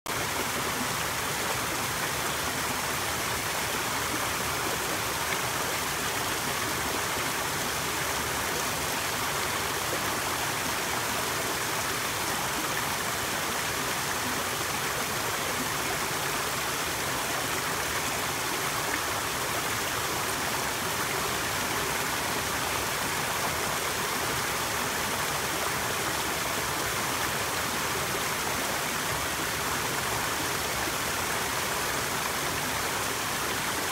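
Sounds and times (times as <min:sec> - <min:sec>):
waterfall rushing and splashing: 0:00.1 - 0:33.9.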